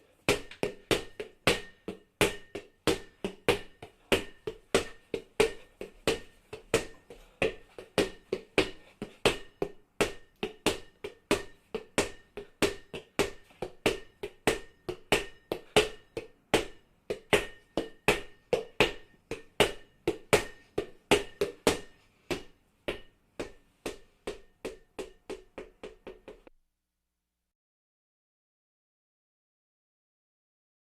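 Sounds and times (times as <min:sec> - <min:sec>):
ball bouncing on hard floor: 0:00.3 - 0:26.5.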